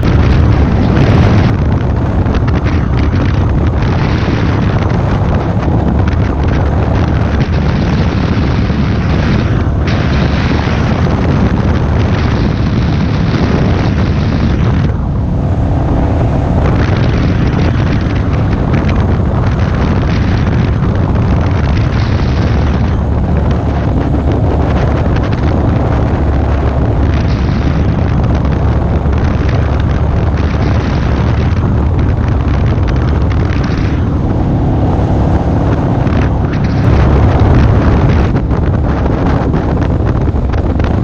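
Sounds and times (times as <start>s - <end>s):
motorcycle engine running: 0.0s - 41.0s
wind buffeting microphone: 0.0s - 41.0s.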